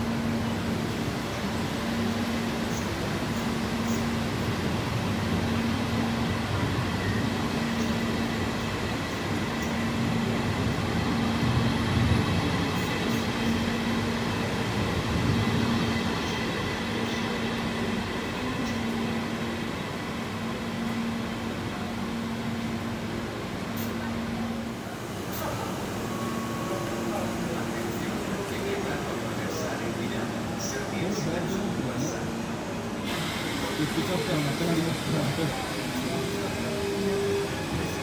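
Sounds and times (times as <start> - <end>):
electric train rumbling on track: 0.0 - 38.0.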